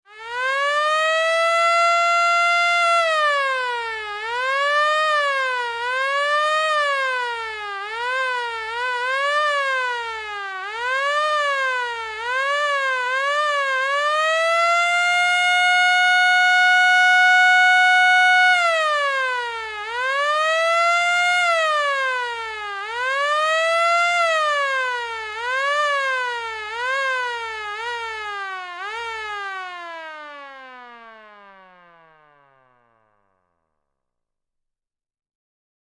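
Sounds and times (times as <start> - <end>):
fire truck siren: 0.1 - 33.2.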